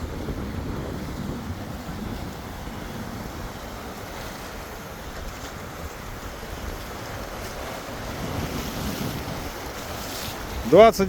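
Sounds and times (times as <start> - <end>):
sea waves washing in: 0.0 - 11.0
wind rumbling on microphone: 0.0 - 11.0.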